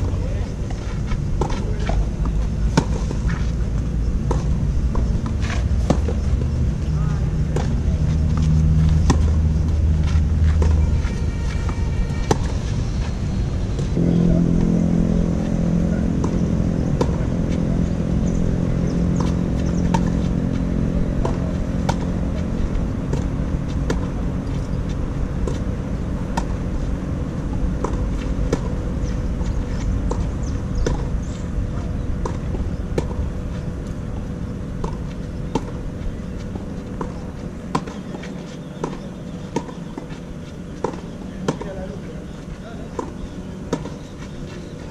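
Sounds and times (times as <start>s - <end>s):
low engine hum: 0.0s - 44.9s
racket hitting tennis ball: 0.7s - 3.5s, 4.2s - 6.6s, 7.4s - 10.8s, 14.0s - 40.2s, 40.8s - 41.8s, 42.9s - 44.0s.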